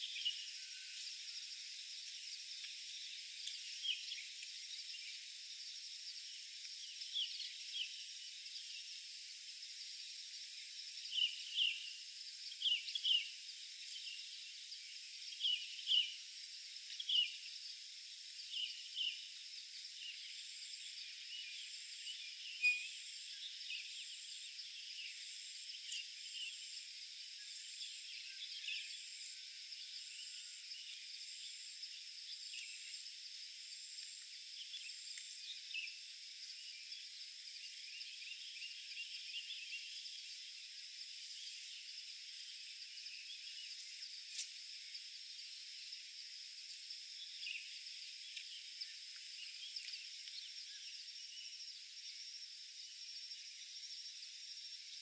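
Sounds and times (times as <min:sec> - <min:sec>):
high insect drone: 0:00.0 - 0:55.0
very high pulsed insect call: 0:00.0 - 0:55.0.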